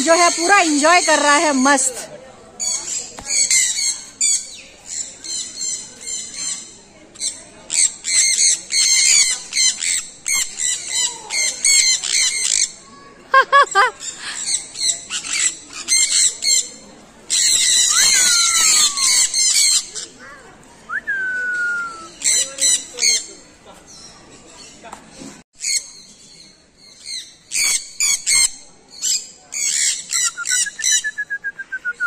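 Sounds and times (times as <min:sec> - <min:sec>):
birds chattering and squawking: 0:00.0 - 0:32.0.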